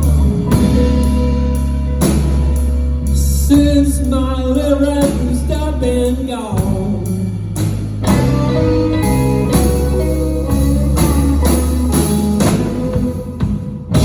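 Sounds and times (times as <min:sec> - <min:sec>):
blues band playing: 0:00.0 - 0:14.0
lead guitar: 0:00.0 - 0:14.0.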